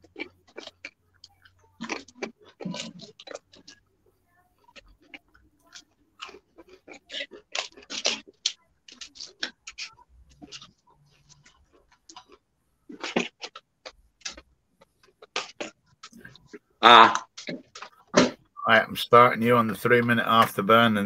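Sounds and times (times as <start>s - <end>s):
crunching popcorn: 0.0s - 18.5s.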